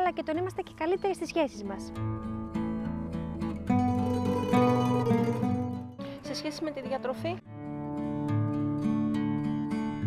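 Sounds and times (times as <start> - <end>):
acoustic guitar plucked notes: 0.1 - 10.0.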